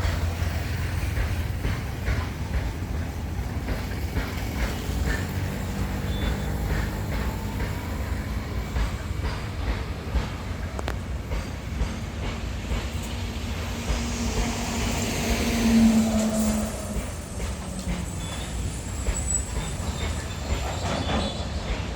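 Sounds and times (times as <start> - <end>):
freight train rumbling: 0.0 - 21.9
wheels clicking on track: 0.0 - 21.9.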